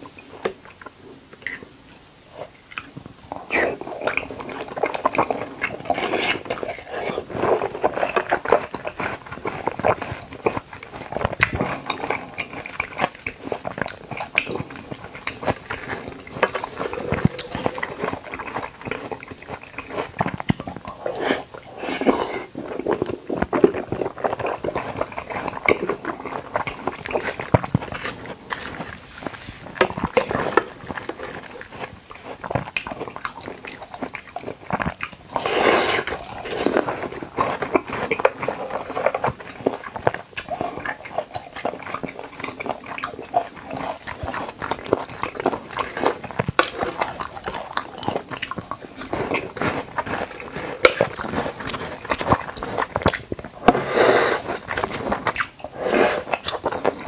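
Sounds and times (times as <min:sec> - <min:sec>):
wet chewing of jelly: 0:00.0 - 0:57.0.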